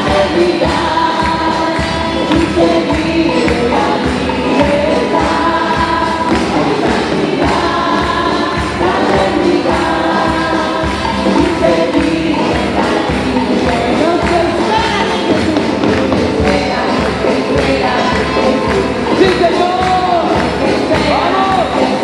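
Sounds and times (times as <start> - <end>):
band music: 0.0 - 22.0
congregation singing: 0.0 - 22.0
hand clapping: 0.0 - 22.0.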